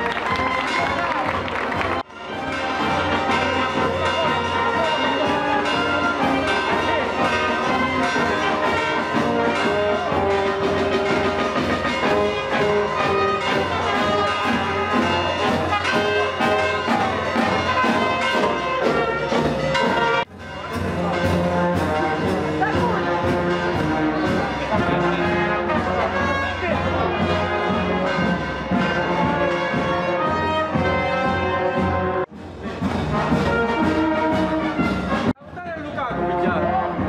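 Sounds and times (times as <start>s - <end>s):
wind band playing: 0.0s - 37.0s.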